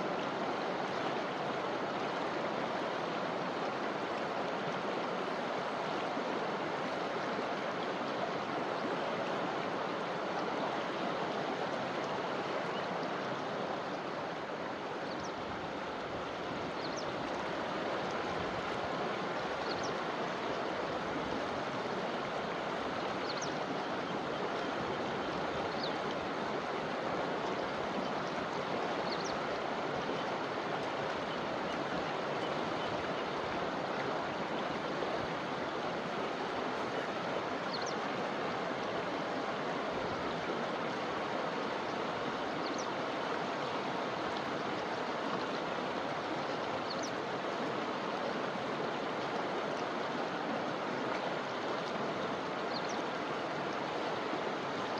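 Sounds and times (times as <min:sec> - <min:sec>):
river water flowing over rocks: 0:00.0 - 0:54.9.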